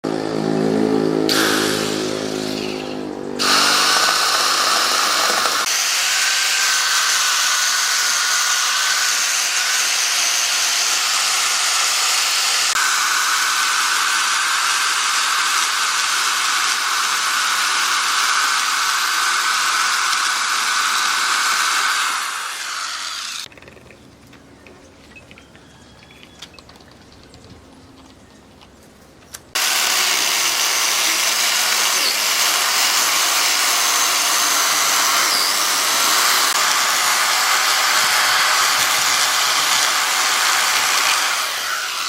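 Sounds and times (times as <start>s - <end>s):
high-pitched power tool whine: 0.0s - 23.5s, 29.6s - 42.0s
power tool motor running: 0.1s - 23.5s, 29.6s - 42.0s.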